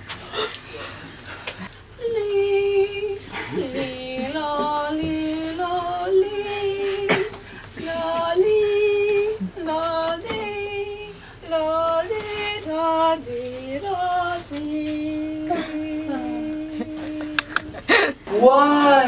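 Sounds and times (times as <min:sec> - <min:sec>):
wordless singing: 0:02.0 - 0:19.0.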